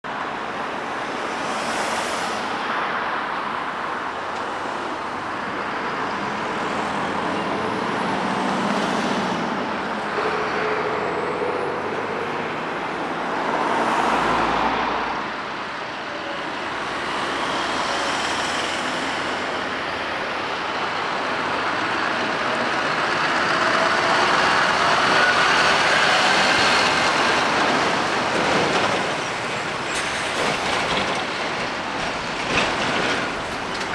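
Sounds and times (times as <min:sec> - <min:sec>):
road traffic passing: 0:00.0 - 0:33.9
livestock truck passing close: 0:04.9 - 0:33.9.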